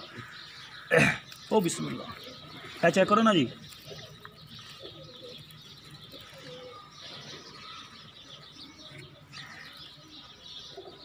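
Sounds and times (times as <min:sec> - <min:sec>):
faint bird chirping: 0:00.0 - 0:11.0
pigeons cooing softly: 0:00.0 - 0:11.0.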